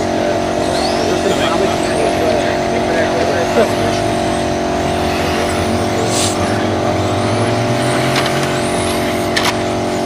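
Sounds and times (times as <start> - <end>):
electric toy car motors whining: 0.0 - 10.0
steady hum: 0.0 - 10.0.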